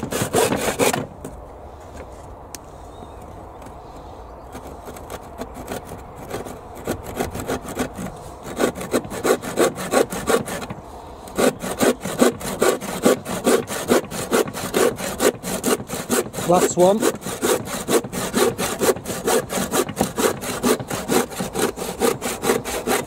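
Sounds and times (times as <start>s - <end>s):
handsaw cutting wood: 0.0s - 1.1s, 4.6s - 23.0s.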